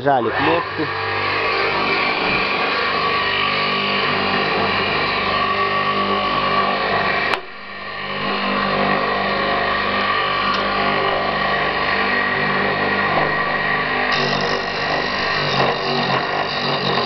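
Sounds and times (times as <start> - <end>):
lathe motor humming: 0.0 - 17.0.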